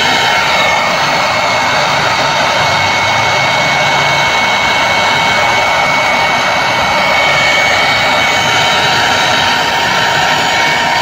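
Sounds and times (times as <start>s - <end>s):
heat gun blowing hot air: 0.0s - 11.0s.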